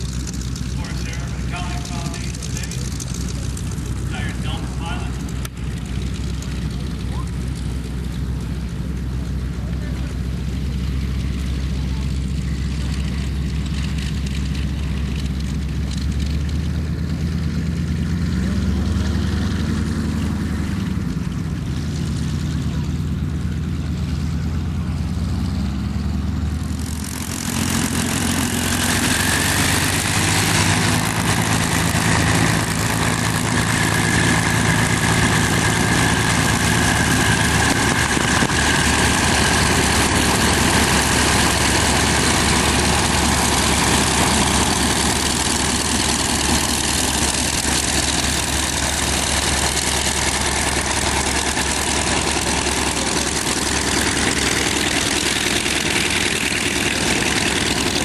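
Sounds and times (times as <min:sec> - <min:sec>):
radial aircraft engine running: 0:00.0 - 0:58.0.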